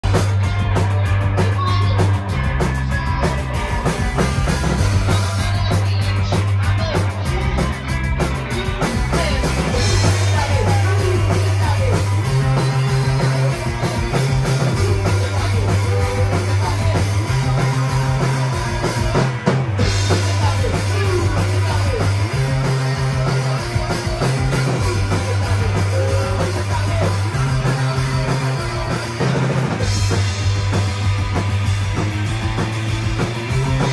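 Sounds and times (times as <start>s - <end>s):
bass guitar low notes: 0.0s - 33.9s
distorted electric guitar: 0.0s - 33.9s.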